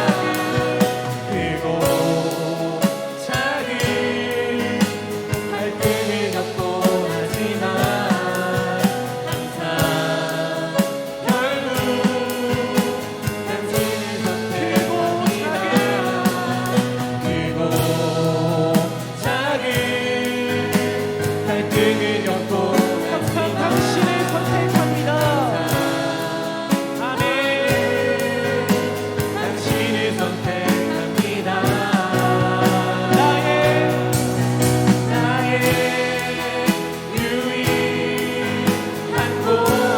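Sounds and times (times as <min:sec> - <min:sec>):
instrumental accompaniment with beat: 0:00.0 - 0:39.9
voices singing worship song: 0:00.0 - 0:39.9.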